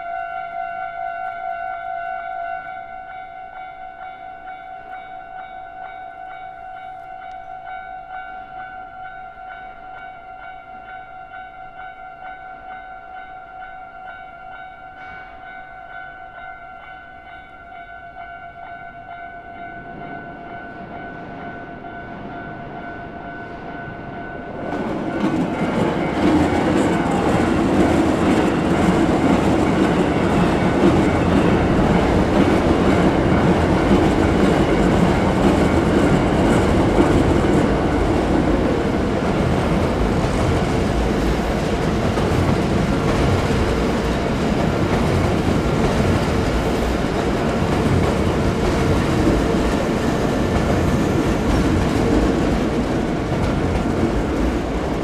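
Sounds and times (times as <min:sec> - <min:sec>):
electric train passing: 0:02.5 - 0:55.0.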